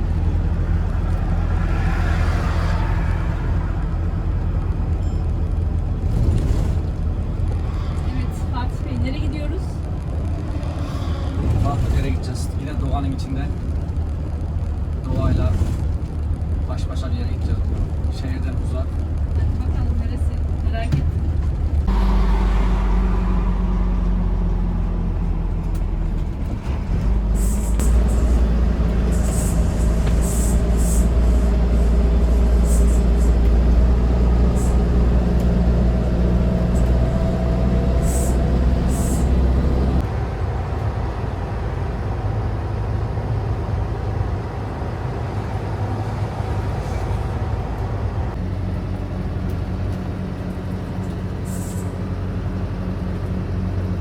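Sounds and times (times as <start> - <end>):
motor vehicle engine hum: 0.0 - 54.0.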